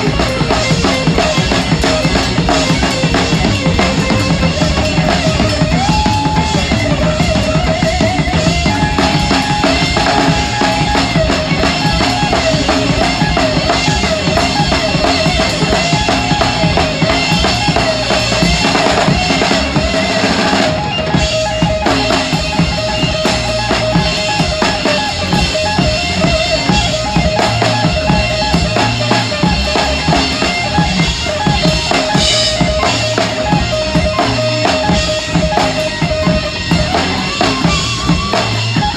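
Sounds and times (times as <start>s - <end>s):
drums pounding: 0.0s - 38.9s
rock band playing: 0.0s - 38.9s
wavering lead melody: 0.0s - 38.9s.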